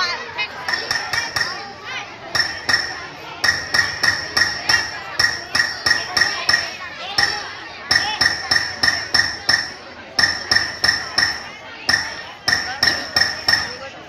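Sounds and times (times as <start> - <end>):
metal ringing strikes: 0.7 - 1.7, 2.4 - 13.9.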